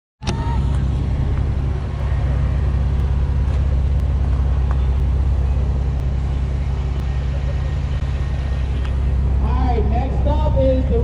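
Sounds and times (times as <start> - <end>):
car engine running: 0.2 - 11.0.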